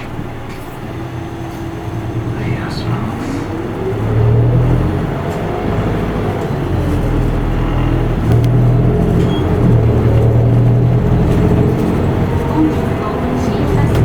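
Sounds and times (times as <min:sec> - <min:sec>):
diesel bus engine pulling: 0:00.0 - 0:14.0.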